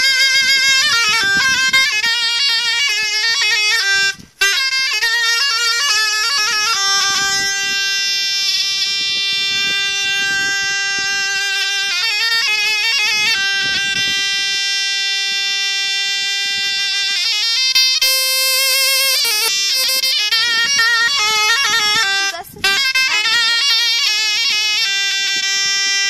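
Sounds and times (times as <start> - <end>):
reedy wind instrument melody: 0.0 - 26.0.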